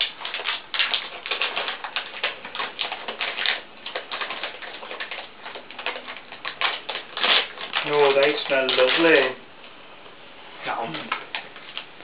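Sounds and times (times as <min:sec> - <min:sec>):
packaging crinkling: 0:00.0 - 0:09.4, 0:10.8 - 0:12.0.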